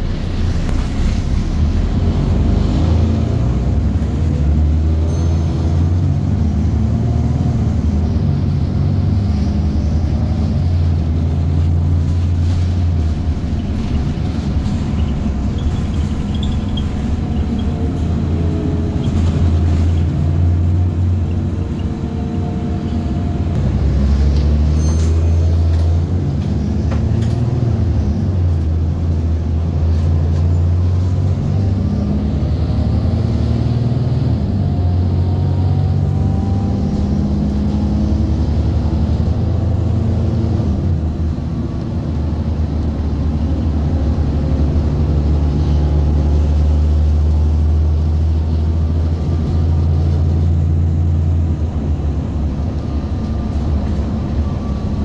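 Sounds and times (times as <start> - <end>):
bus engine running under load: 0.0 - 55.0.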